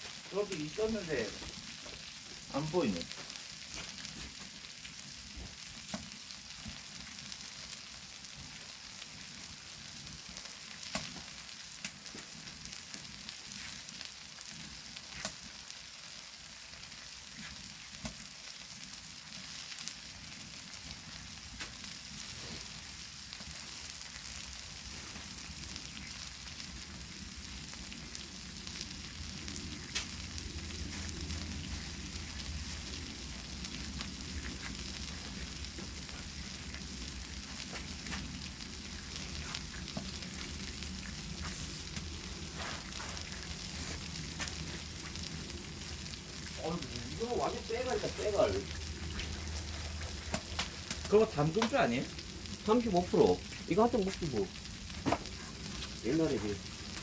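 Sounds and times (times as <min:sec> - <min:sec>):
meat sizzling on hot stone: 0:00.0 - 0:57.0.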